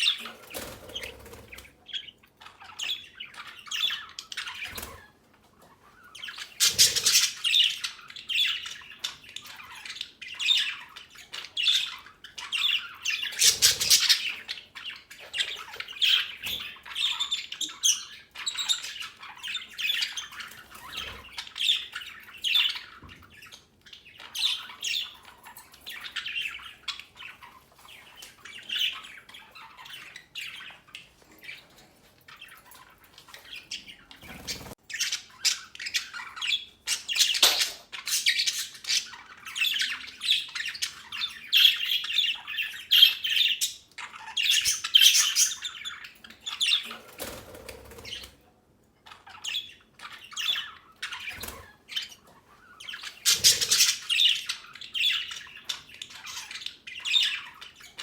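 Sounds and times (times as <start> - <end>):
budgerigars chattering: 0.0 - 48.4, 49.1 - 58.0.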